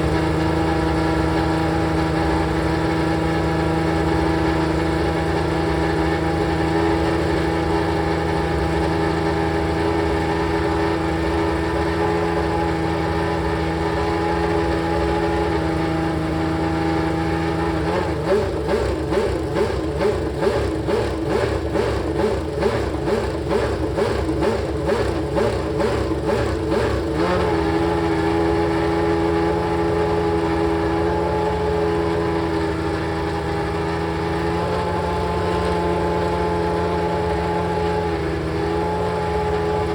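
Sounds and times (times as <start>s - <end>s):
racing car engine idling: 0.0s - 39.9s
rapid throttle blips: 0.0s - 39.9s.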